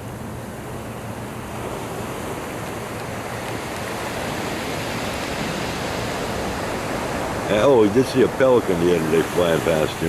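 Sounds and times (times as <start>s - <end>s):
ocean surf rushing: 0.0s - 10.0s
waves washing onto rocks: 0.0s - 10.0s.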